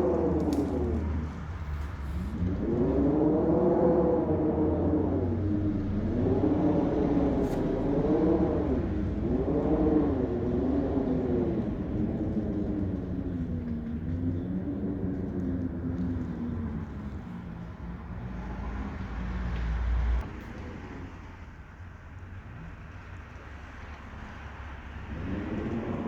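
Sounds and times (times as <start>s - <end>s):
storm wind rushing: 0.0s - 20.2s, 25.0s - 26.0s
vehicle passing: 0.0s - 21.2s, 23.0s - 26.0s
wind buffeting microphone: 0.0s - 26.0s.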